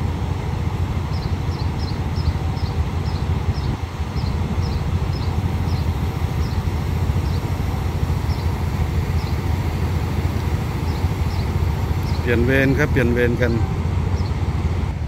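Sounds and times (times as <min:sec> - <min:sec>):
diesel locomotive idling: 0:00.0 - 0:15.0
high repeating chirp: 0:01.1 - 0:13.6.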